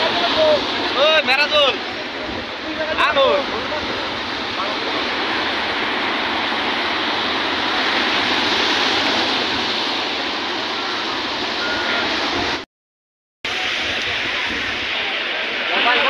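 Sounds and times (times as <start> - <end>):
surf washing over rocks: 0.0 - 12.6, 13.5 - 16.0.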